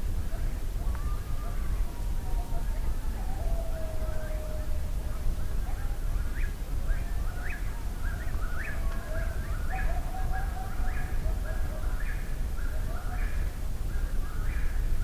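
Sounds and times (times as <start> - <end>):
distant coyotes howling: 0.3 - 13.5.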